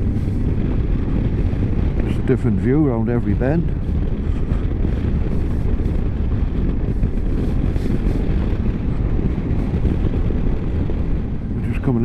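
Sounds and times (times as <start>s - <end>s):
road noise: 0.0s - 12.0s
wind rushing over microphone: 0.0s - 12.0s.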